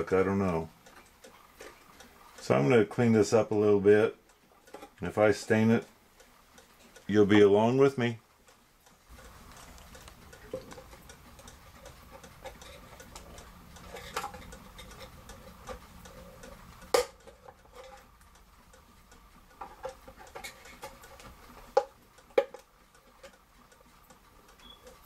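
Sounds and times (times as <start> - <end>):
clock ticking: 0.0 - 25.0.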